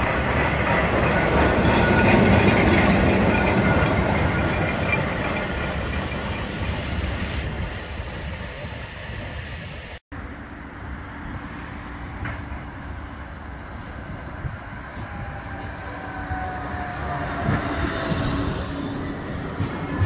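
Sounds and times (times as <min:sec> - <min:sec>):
tram drive whining: 0:00.0 - 0:20.0
tram passing: 0:00.0 - 0:20.0.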